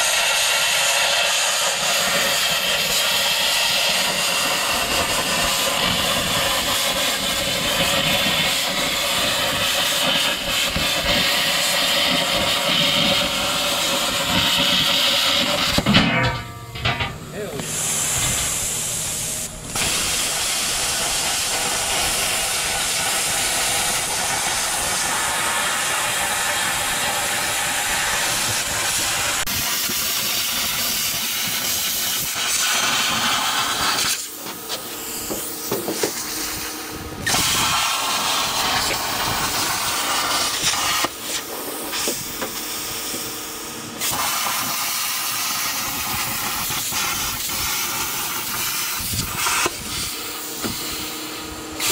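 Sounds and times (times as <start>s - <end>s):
plasma cutter hissing: 0.0s - 16.4s, 17.3s - 51.9s.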